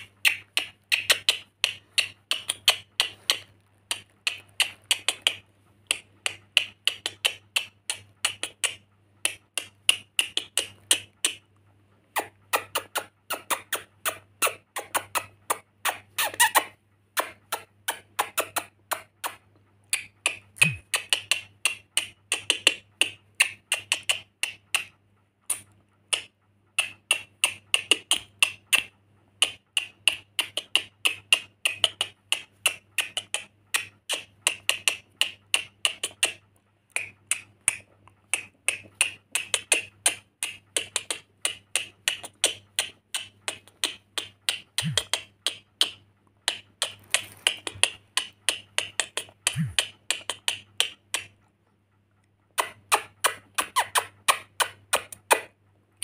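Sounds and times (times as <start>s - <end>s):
parrot making sharp clicks: 0.0s - 11.4s, 12.1s - 24.9s, 25.5s - 51.4s, 52.5s - 55.6s.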